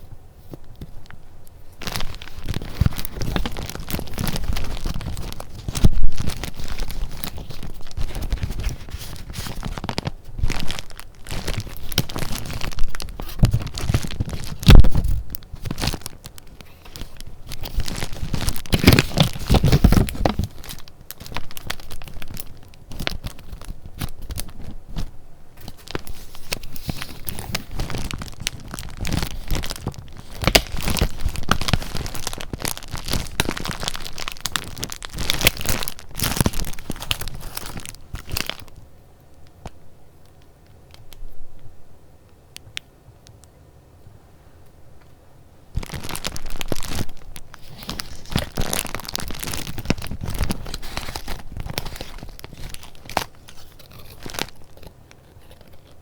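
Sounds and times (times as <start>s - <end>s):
paper crinkling and tearing: 1.7s - 38.8s, 45.8s - 56.0s.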